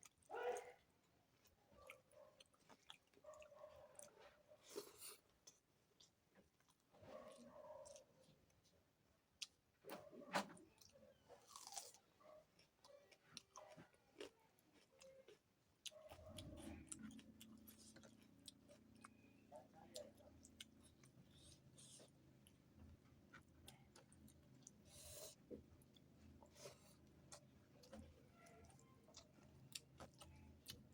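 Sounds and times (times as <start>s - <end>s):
chewing and crunching food: 0.0s - 30.9s.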